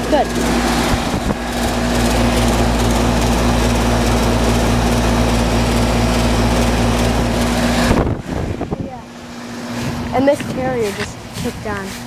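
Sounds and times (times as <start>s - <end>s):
compressor humming: 0.0s - 12.0s
condenser fan air rush: 0.0s - 12.0s.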